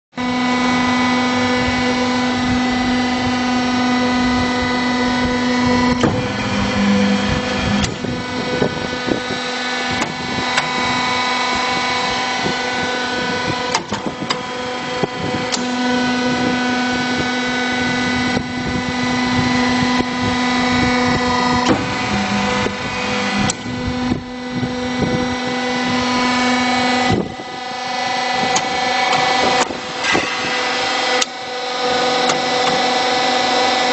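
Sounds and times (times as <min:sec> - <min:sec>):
machine drone with motor hum: 0:00.1 - 0:33.9.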